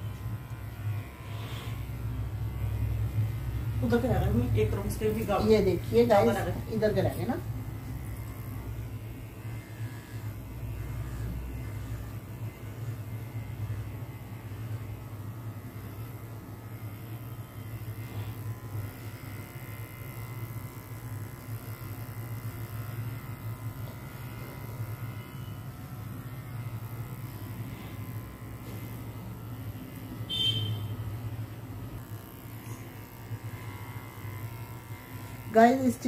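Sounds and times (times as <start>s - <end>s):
electric hair clipper buzzing: 0.0s - 36.0s.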